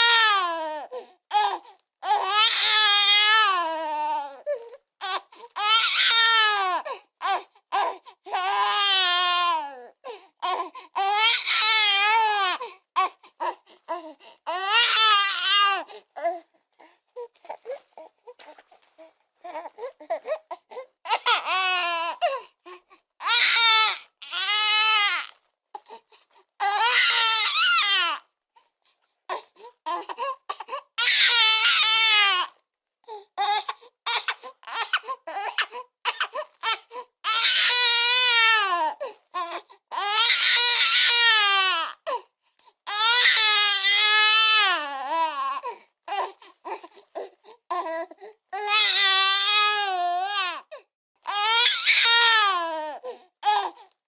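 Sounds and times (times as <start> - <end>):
newborn baby crying: 0.0 - 16.5, 17.2 - 25.9, 26.6 - 28.3, 29.3 - 32.6, 33.2 - 53.9
baby gasping and sobbing: 0.0 - 54.0.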